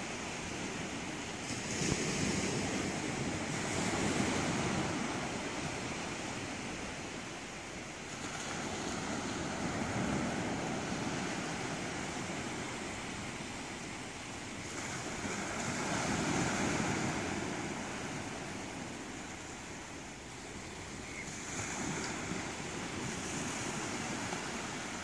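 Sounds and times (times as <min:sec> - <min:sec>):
small waves washing onto beach: 0:00.0 - 0:25.0.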